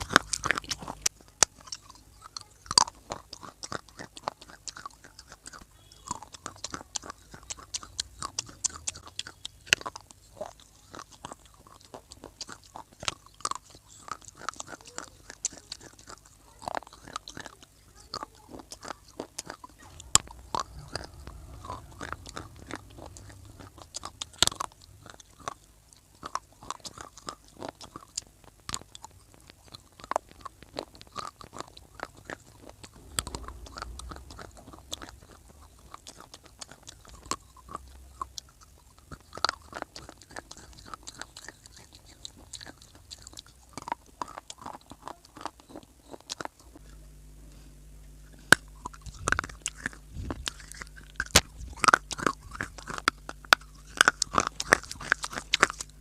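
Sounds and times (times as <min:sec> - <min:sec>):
crunchy clay chewing: 0:00.0 - 0:56.0
low steady hum: 0:00.0 - 0:56.0.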